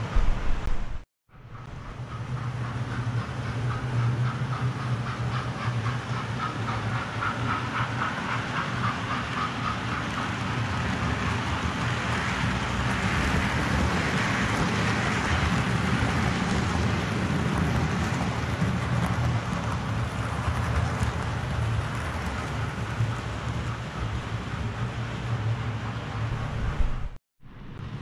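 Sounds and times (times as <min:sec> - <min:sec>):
wheels ticking over rail joints: 0:00.1 - 0:27.1.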